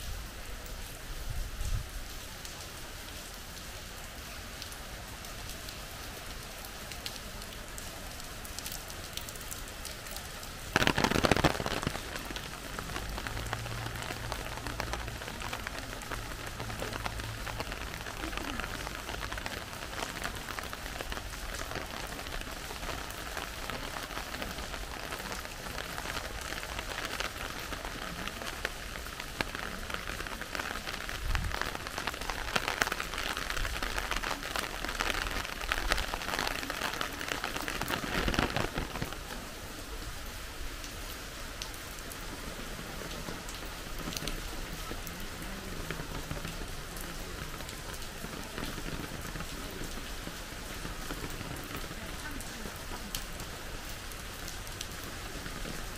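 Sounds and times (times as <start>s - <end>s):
rain pattering on surfaces: 0.0s - 55.9s.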